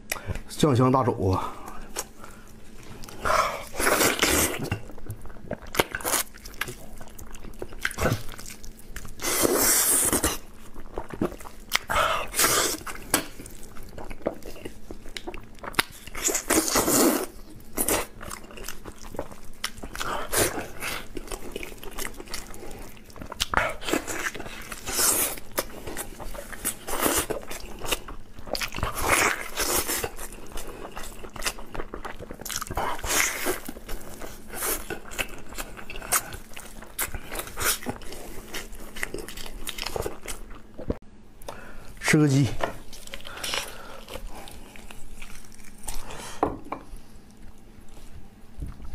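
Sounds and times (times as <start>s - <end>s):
man biting and chewing: 1.8s - 41.6s, 42.8s - 46.4s.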